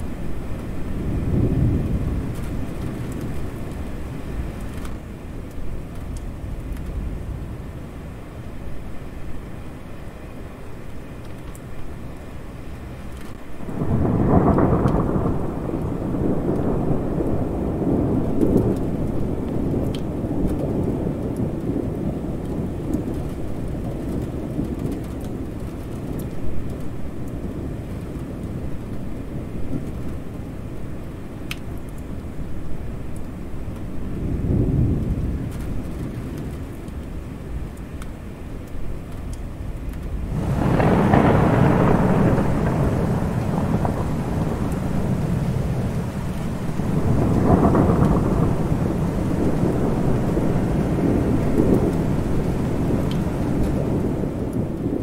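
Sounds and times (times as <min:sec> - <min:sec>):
thunder rumbling: 0:00.0 - 0:09.4, 0:10.5 - 0:55.0
steady rain: 0:00.0 - 0:55.0.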